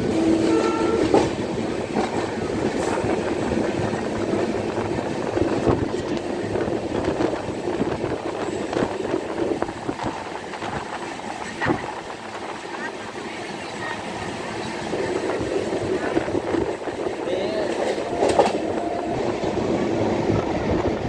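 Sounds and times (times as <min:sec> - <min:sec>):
rail clicks and clacks: 0:00.0 - 0:21.0
train wheels rumbling on rails: 0:00.0 - 0:21.0.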